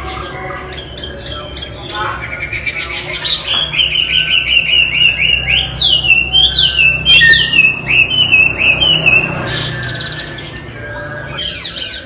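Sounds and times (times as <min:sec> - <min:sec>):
bird singing high notes: 0:00.7 - 0:12.0.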